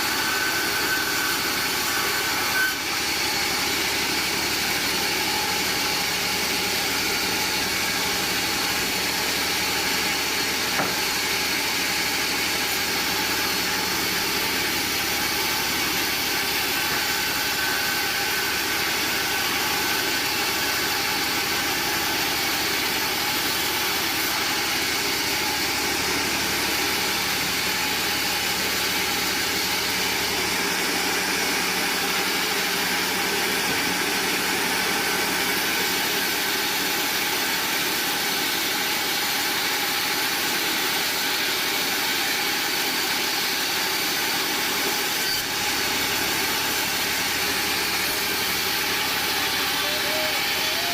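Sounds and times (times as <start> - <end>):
band sawmill running: 0.0 - 50.9.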